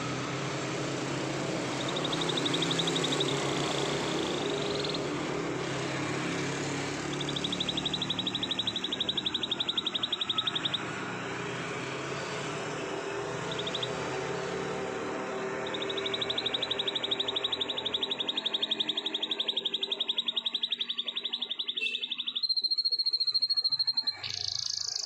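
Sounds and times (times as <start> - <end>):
canary singing trills: 0.0 - 25.0.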